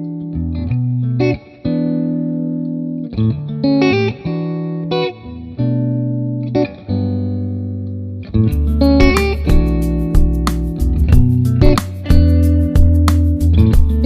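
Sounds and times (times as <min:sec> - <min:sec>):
guitar chords with effects: 0:00.0 - 0:14.0.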